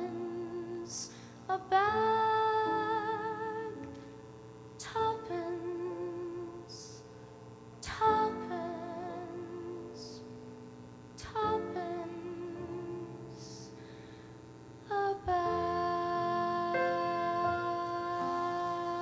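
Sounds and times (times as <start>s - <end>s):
woman singing with vibrato: 0.0s - 3.9s, 4.8s - 7.1s, 7.8s - 10.4s, 11.2s - 13.7s, 14.9s - 19.0s
piano chords: 0.0s - 19.0s.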